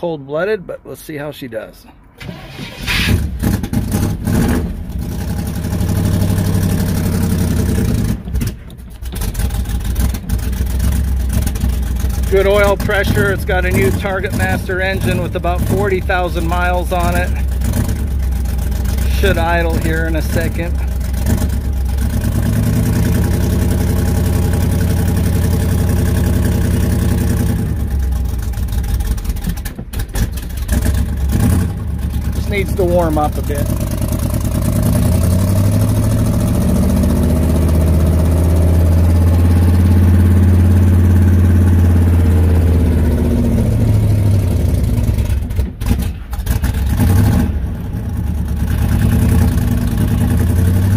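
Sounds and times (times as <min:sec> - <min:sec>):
pickup engine cold starting: 0:02.1 - 0:50.9.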